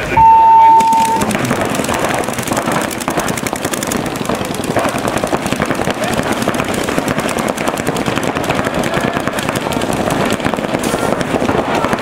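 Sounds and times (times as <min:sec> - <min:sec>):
paintball markers firing: 0:00.8 - 0:12.0.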